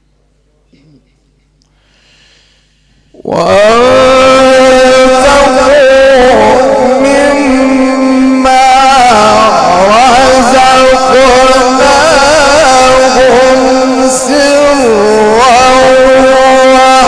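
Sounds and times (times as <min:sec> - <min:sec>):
man chanting melodically: 0:03.2 - 0:17.0.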